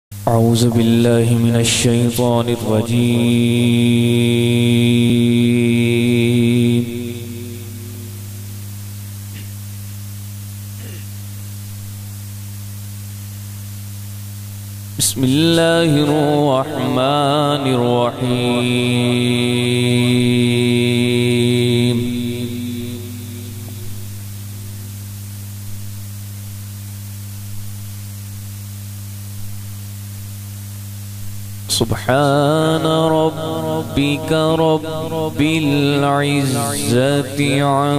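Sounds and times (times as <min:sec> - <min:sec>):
electrical mains hum: 0:00.1 - 0:37.9
microphone hiss: 0:00.1 - 0:37.9.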